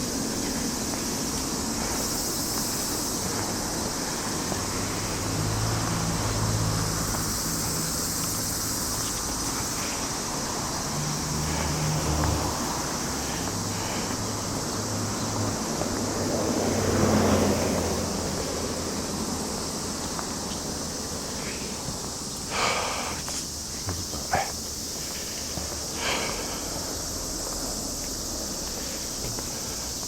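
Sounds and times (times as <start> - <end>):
steady high hiss: 0.0 - 15.7, 16.6 - 30.0.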